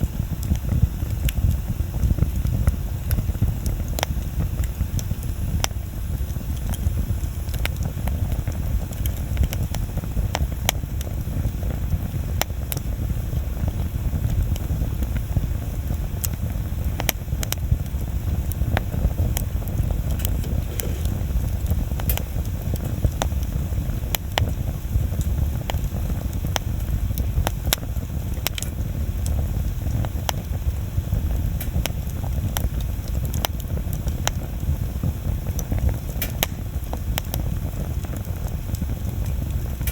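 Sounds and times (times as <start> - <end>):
fire crackling and popping: 0.0 - 39.9
flames rushing: 0.0 - 39.9.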